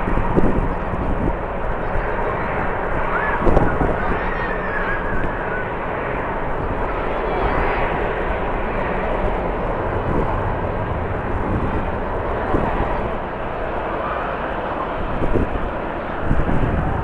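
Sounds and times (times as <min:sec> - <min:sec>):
jet engines running: 0:00.0 - 0:17.0
wind buffeting microphone: 0:00.0 - 0:17.0.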